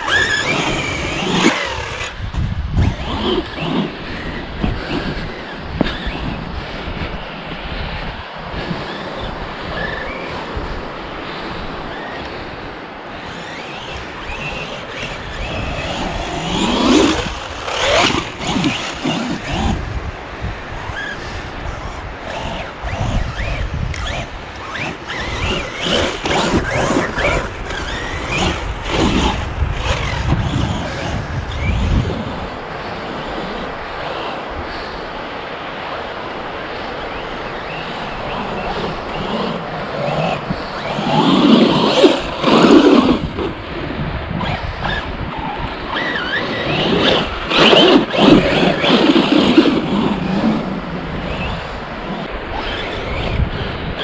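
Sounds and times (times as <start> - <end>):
tyres running through sand: 0.0 - 7.3, 7.9 - 34.6, 35.9 - 54.0
electric motor whining: 0.0 - 35.1, 36.2 - 54.0
wind rumble on microphone: 0.0 - 54.0.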